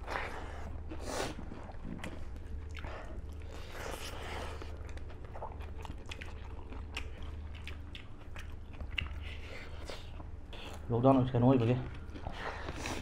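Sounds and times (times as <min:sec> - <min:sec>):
people chewing and crunching food: 0:00.0 - 0:13.0.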